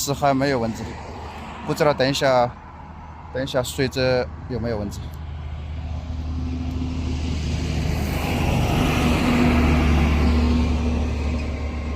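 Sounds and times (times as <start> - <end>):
vehicle passing on road: 0.0 - 11.9.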